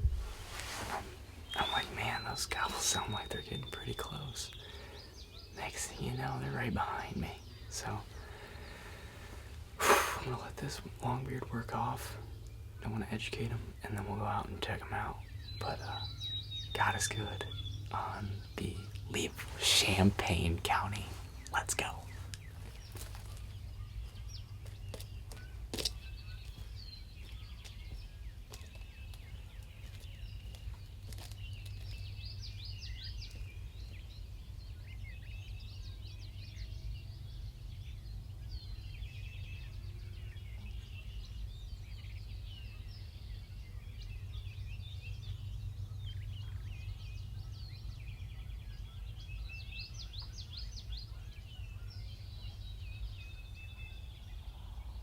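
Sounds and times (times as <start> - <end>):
steady low rumble: 0.0 - 49.7
small birds chirping: 0.0 - 55.0.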